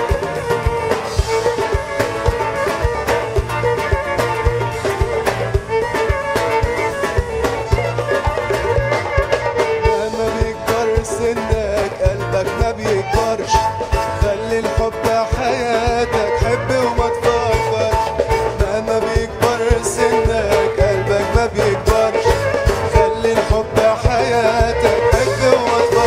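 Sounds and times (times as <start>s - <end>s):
steady drum beat: 0.0s - 26.0s.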